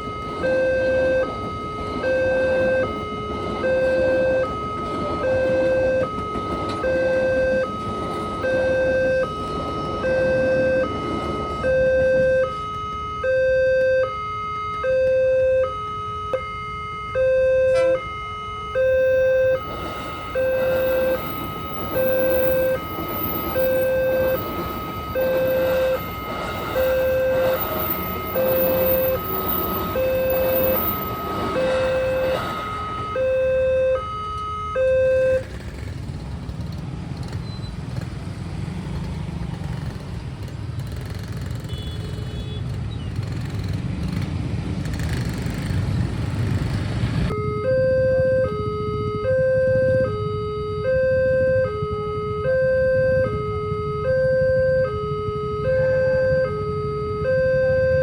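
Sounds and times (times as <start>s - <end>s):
two-tone crossing alarm: 0.0s - 35.8s, 47.3s - 58.0s.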